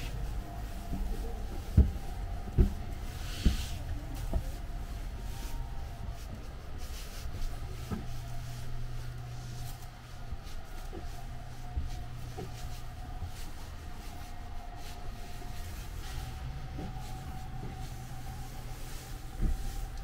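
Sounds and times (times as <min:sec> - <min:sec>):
footsteps on carpeted stairs: 0:00.0 - 0:20.0
train low hum: 0:00.0 - 0:20.0.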